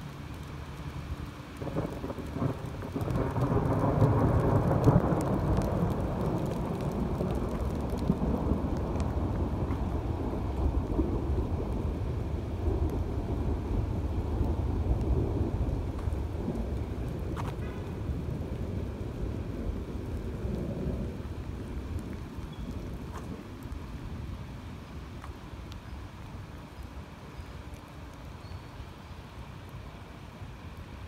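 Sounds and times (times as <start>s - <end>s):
heavy steady rain rumble: 0.0s - 31.0s.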